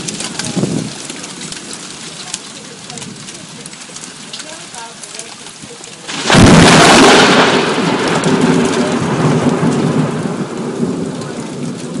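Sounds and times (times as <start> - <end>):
thunder clap and rumble: 0.0 - 4.5, 6.1 - 12.0
heavy rain: 0.0 - 12.0.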